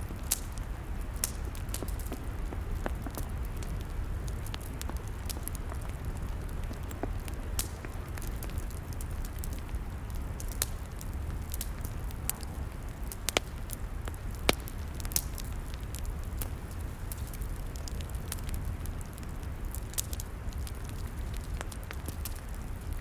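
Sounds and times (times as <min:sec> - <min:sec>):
log fire crackling and popping: 0:00.0 - 0:23.0.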